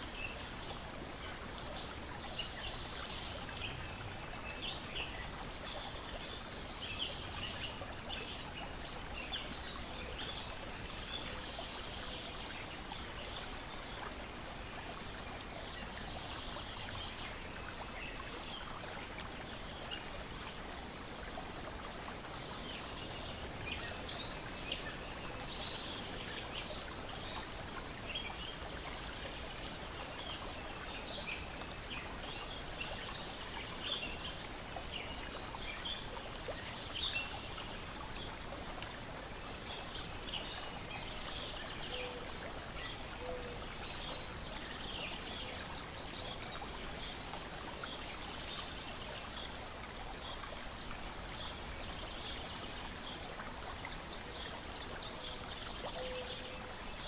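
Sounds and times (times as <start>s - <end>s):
water lapping and trickling: 0.0s - 57.0s.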